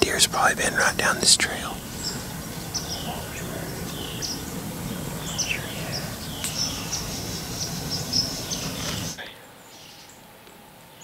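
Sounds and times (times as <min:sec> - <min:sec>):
low outdoor rumble: 0:00.0 - 0:09.6
songbirds chirping: 0:00.0 - 0:11.0.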